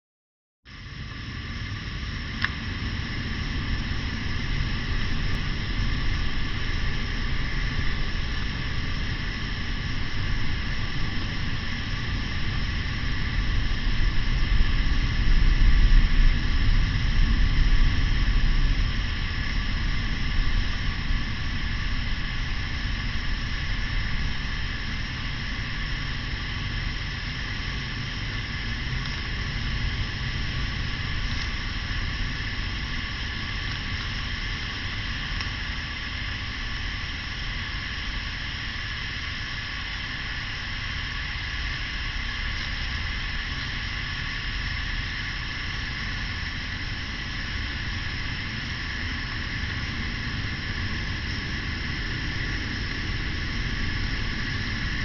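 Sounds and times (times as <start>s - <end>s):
bonfire hissing and rumbling: 0.7s - 55.0s.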